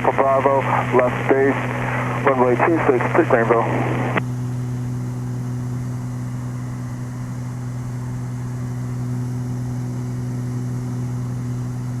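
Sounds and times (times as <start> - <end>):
airplane engines droning: 0.0 - 12.0.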